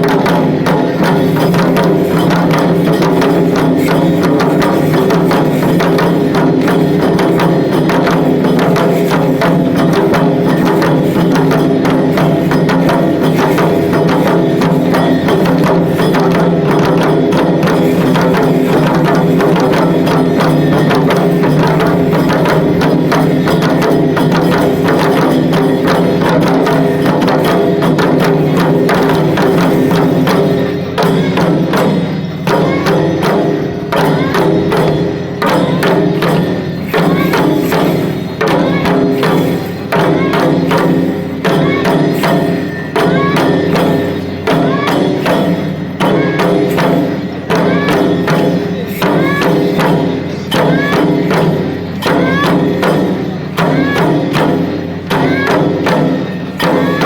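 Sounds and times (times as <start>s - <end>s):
rapid festival drumming: 0.0s - 57.0s.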